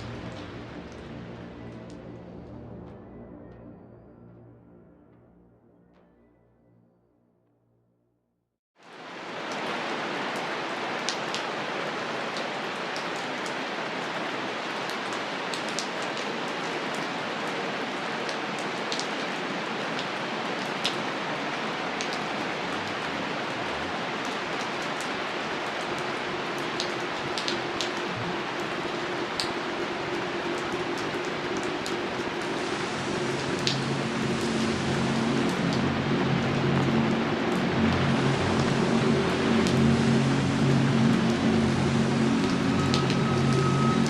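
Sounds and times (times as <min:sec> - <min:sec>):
rain pattering: 0:00.0 - 0:02.6, 0:08.8 - 0:44.0.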